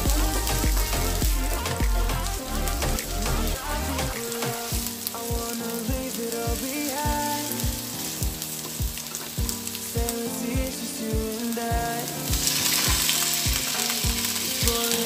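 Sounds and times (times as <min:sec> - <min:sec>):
background music with beat: 0:00.0 - 0:15.0
food sizzling in hot oil: 0:00.0 - 0:15.0.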